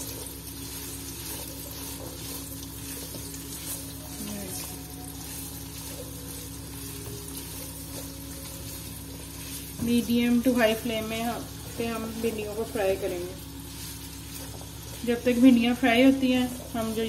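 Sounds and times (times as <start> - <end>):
spatula turning food: 0.0 - 17.0
steady low hum: 0.0 - 17.0
vegetables sizzling in hot oil: 0.0 - 17.0.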